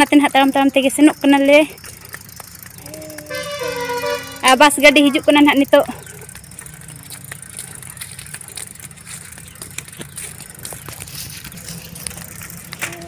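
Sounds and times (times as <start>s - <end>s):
bicycle ticking and rattling: 0.0s - 13.0s
bus engine hum: 0.0s - 13.0s.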